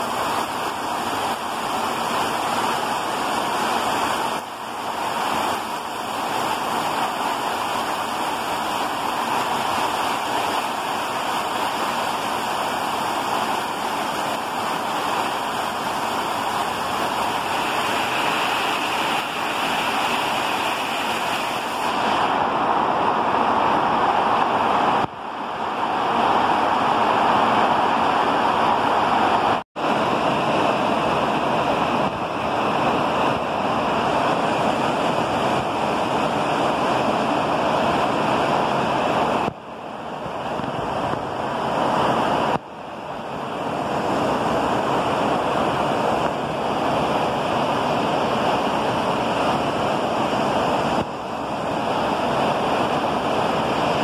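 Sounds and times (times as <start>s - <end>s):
heavy rain pouring on trees: 0.0s - 54.0s.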